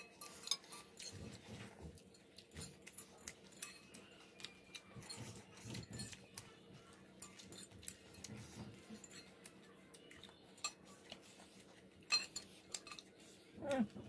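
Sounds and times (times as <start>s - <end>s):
forks clinking on plates: 0.0s - 14.0s.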